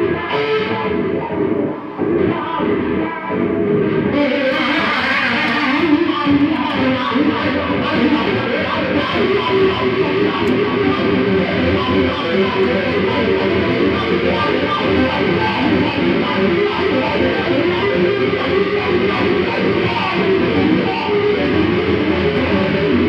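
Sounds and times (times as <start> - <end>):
electric guitar playing: 0.0 - 23.0.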